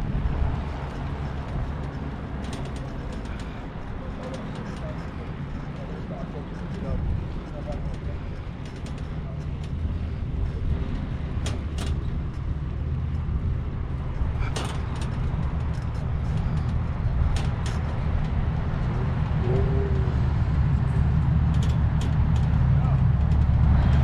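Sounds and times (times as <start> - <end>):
sharp clicks and rattles: 0.0 - 24.0
wind rumbling on microphone: 0.0 - 24.0.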